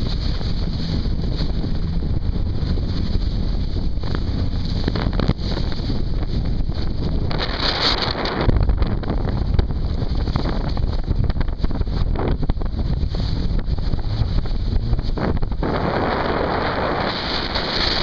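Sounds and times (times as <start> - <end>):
jet ski running: 0.0 - 18.0
water rushing: 0.0 - 18.0
wind buffeting microphone: 0.0 - 18.0.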